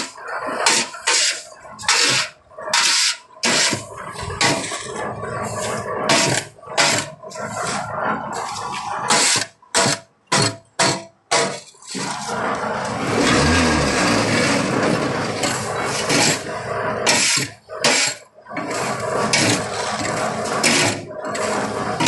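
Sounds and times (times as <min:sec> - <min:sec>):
concrete mix scraping on steel: 0:00.0 - 0:22.0.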